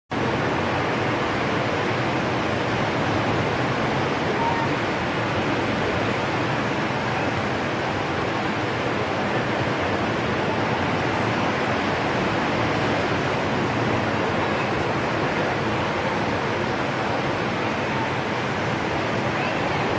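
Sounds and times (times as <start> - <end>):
ocean waves breaking: 0.1 - 19.9.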